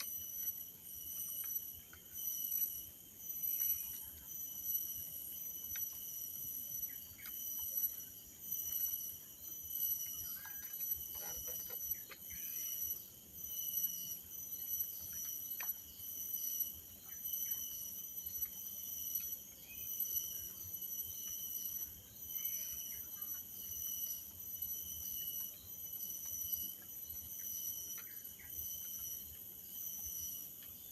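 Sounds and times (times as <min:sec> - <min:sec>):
bird chirps: 0:00.0 - 0:30.9
insects trilling: 0:00.0 - 0:30.9.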